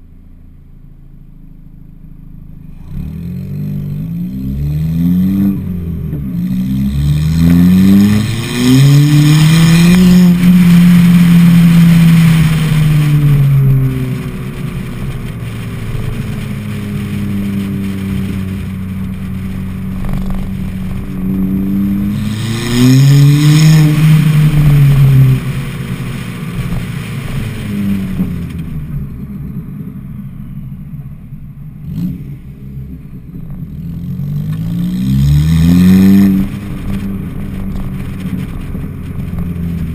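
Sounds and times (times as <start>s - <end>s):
car engine accelerating through gears: 2.6s - 29.8s, 31.7s - 39.9s.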